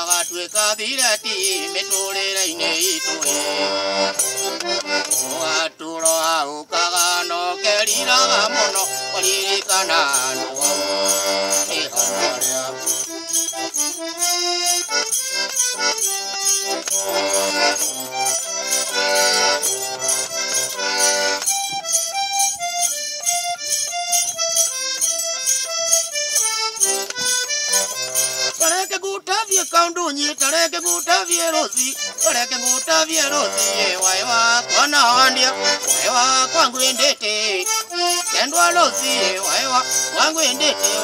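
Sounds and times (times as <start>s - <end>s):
button accordion melody: 0.0s - 41.0s
fast ticking beat: 0.0s - 41.0s.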